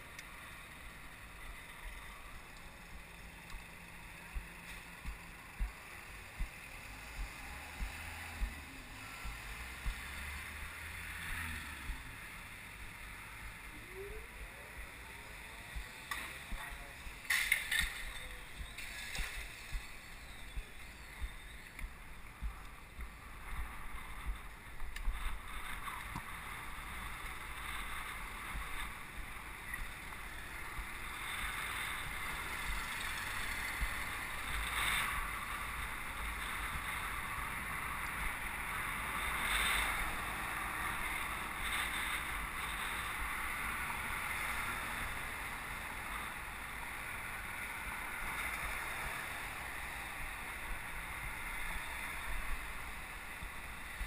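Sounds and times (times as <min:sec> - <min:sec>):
low bumps: 0:00.0 - 0:44.1
cars passing: 0:00.0 - 0:54.0
wind and road noise: 0:00.0 - 0:54.0.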